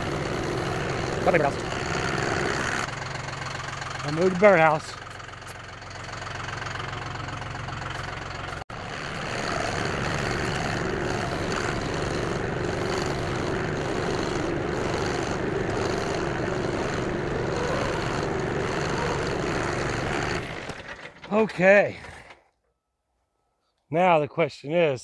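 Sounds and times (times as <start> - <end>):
vehicle engine running: 0.0 - 22.4.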